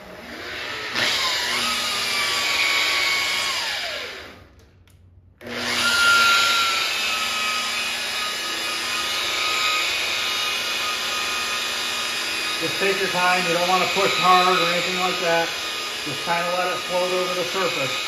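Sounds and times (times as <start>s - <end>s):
rotary polisher motor whine: 0.0s - 4.5s, 5.4s - 18.0s.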